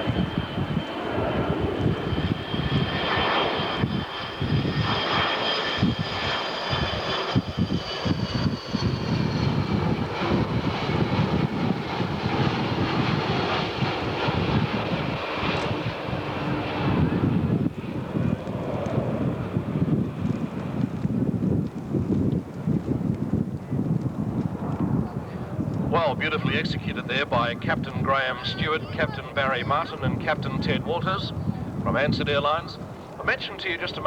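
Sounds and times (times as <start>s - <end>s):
jet airliners flying past: 0.0s - 23.0s, 23.6s - 34.0s
wind buffeting microphone: 0.0s - 34.0s.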